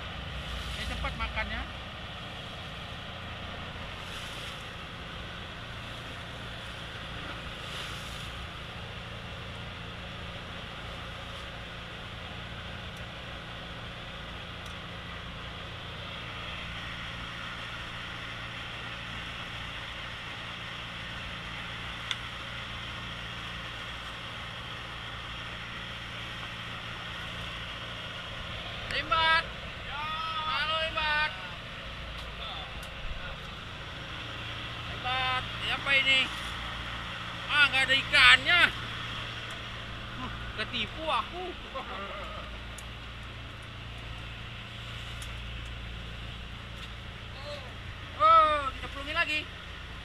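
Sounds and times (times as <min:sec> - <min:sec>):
boat engine humming: 0:00.0 - 0:50.0.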